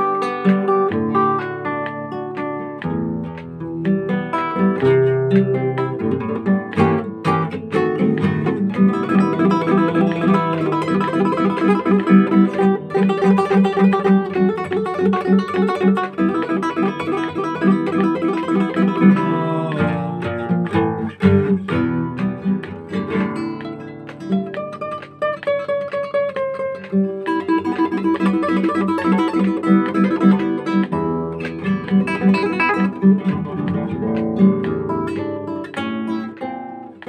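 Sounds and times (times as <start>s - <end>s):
solo guitar playing: 0.0s - 37.0s.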